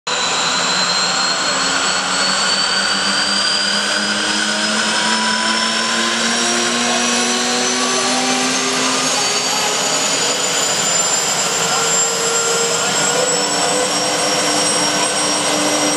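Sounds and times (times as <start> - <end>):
helicopter turbine whine and rotors: 0.1 - 15.9.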